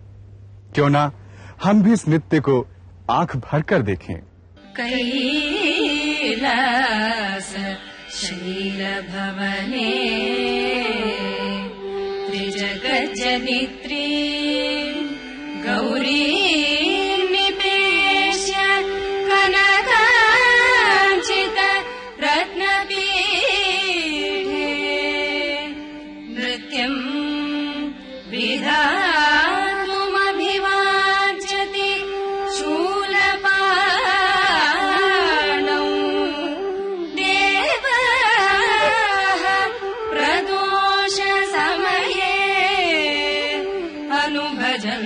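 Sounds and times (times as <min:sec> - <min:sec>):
classical vocal singing: 0:04.6 - 0:45.0.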